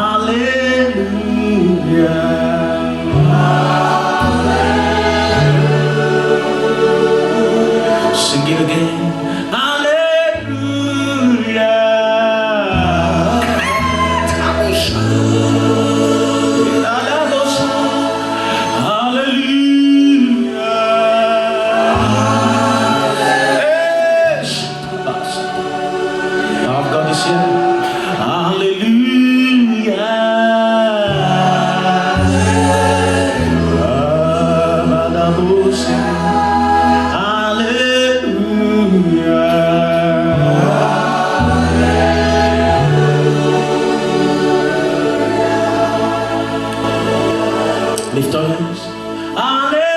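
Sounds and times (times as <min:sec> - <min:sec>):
sustained bass: 0:00.0 - 0:29.0, 0:31.0 - 0:49.9
choir singing: 0:00.0 - 0:49.9
keyboard chords: 0:00.0 - 0:49.9.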